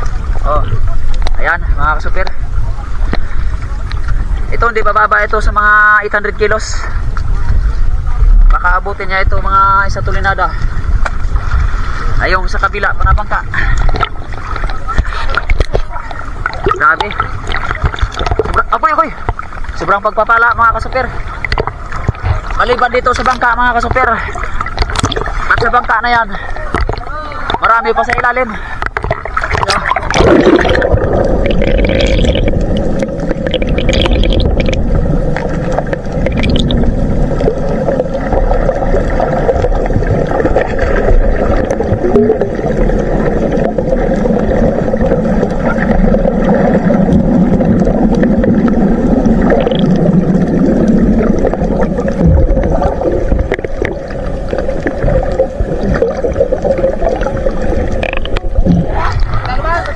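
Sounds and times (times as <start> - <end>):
steady hum: 0.0 - 59.9
water splashing: 0.0 - 59.9
water gurgling underwater: 7.1 - 59.9.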